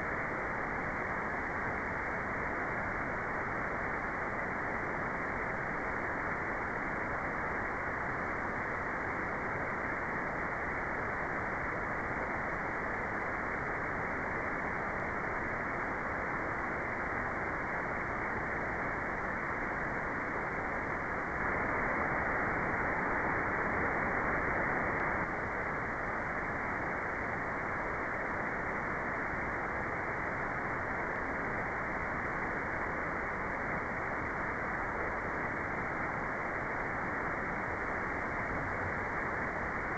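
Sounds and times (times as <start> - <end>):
muffled white noise hiss: 0.0 - 39.9.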